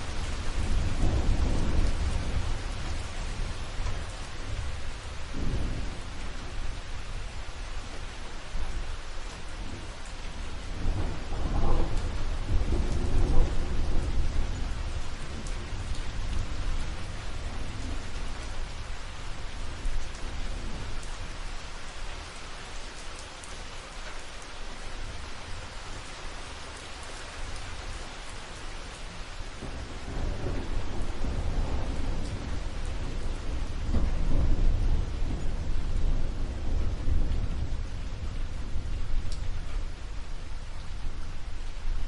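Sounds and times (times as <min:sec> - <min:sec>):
low rolling thunder: 0:00.0 - 0:21.3, 0:29.0 - 0:42.0
steady rain falling: 0:00.0 - 0:42.0.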